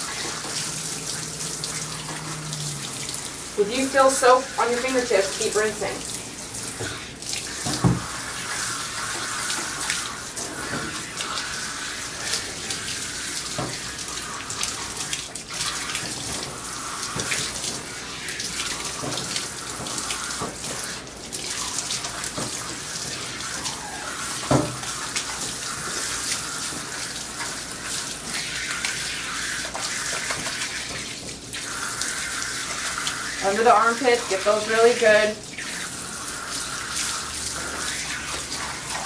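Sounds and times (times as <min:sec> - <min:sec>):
water spraying and splashing: 0:00.0 - 0:39.0.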